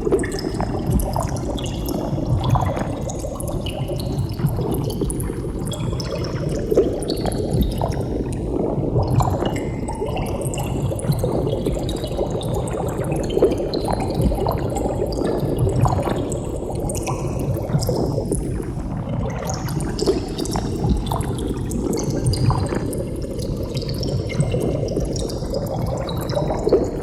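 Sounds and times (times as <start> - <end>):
water bubbling: 0.0 - 27.0.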